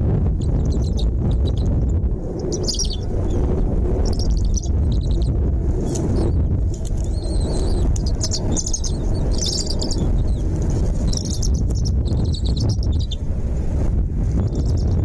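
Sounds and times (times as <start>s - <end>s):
steady low rumble: 0.0s - 15.0s
small birds chirping: 0.4s - 13.2s, 14.2s - 15.0s.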